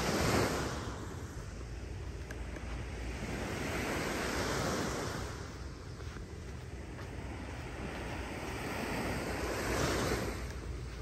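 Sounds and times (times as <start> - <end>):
surf washing up beach: 0.0 - 11.0
wind buffeting microphone: 0.0 - 11.0.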